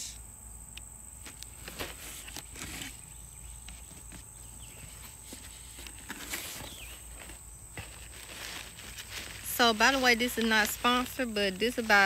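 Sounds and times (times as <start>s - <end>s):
cardboard box being handled: 1.6s - 3.0s, 3.7s - 12.0s.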